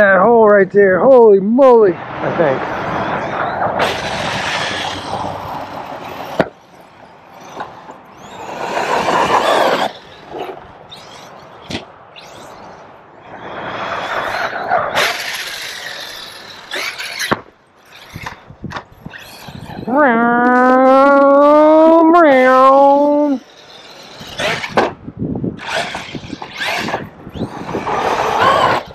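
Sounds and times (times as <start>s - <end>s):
electric rc truck motor and tyres: 1.2s - 28.9s.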